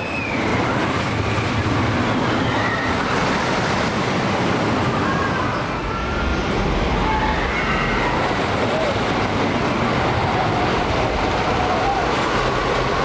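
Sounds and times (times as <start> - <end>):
roller coaster rumbling on wooden track: 0.0 - 13.0.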